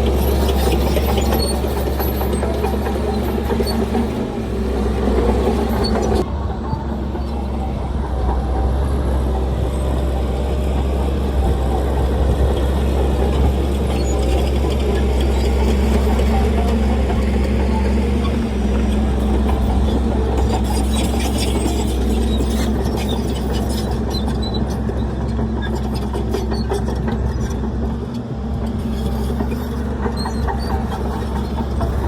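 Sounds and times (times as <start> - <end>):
diesel machinery engine hum: 0.0 - 32.0.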